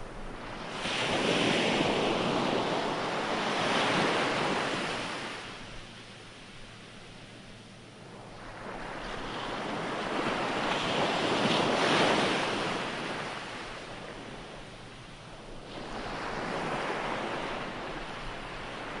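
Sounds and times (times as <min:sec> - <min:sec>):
ocean waves washing ashore: 0:00.0 - 0:19.0.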